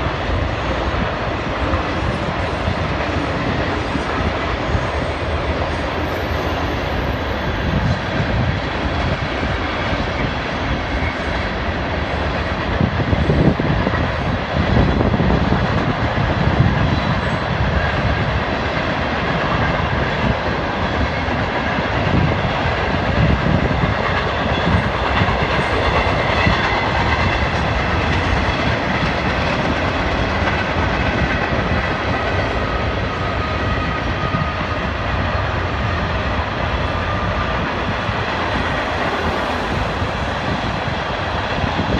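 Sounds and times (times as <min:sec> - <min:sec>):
freight train wheels on rails: 0:00.0 - 0:41.9.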